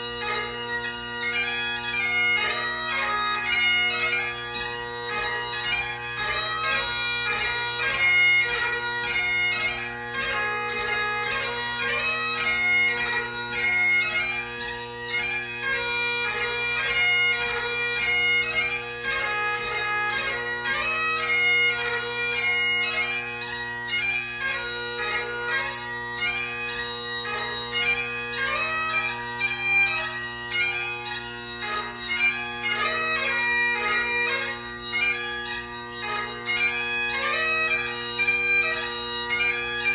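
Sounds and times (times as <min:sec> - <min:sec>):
bagpipe playing: 0:00.0 - 0:39.9.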